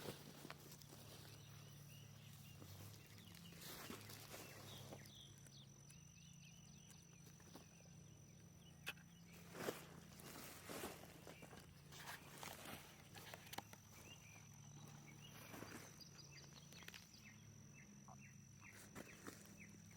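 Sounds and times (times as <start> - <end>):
small chirps: 0.1 - 19.9.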